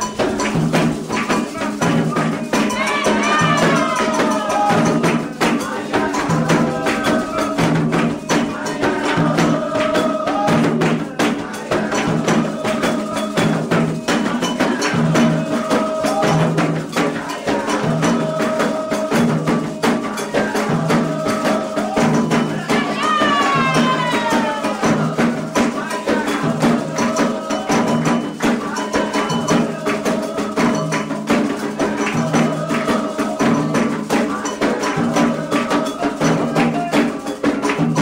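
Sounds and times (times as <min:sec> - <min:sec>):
chanted song: 0:00.0 - 0:38.0
hand drums and percussion: 0:00.0 - 0:38.0.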